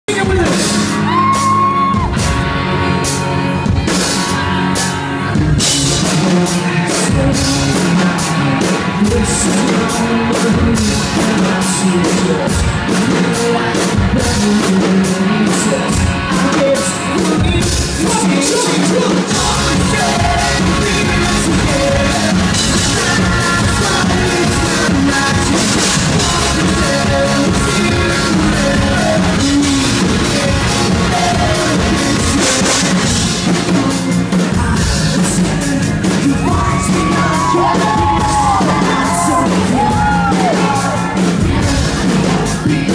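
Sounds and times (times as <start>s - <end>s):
male singer: 0.0s - 2.1s, 5.2s - 42.9s
drum kit: 0.0s - 42.9s
keyboard: 0.0s - 42.9s
electric guitars: 0.1s - 42.9s.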